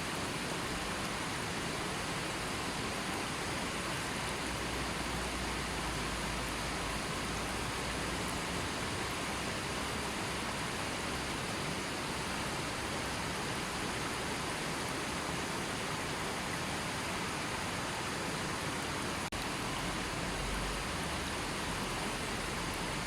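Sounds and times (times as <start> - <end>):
river flowing: 0.0 - 23.0.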